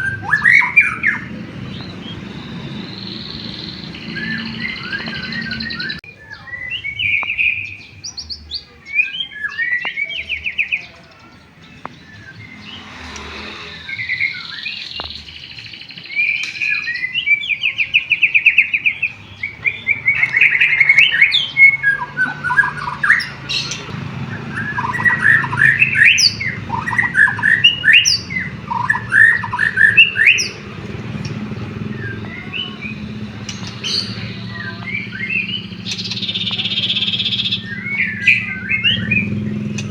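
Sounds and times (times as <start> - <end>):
songbird singing whistles and trills: 0.0 - 39.9.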